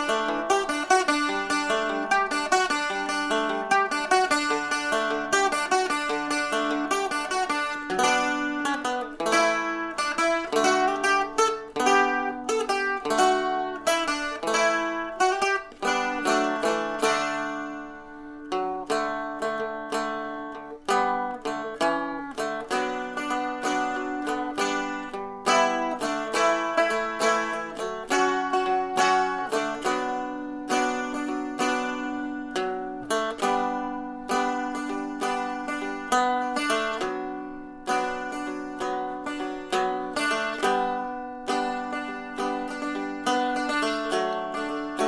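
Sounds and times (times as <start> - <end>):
plucked dulcimer melody: 0.0 - 45.0.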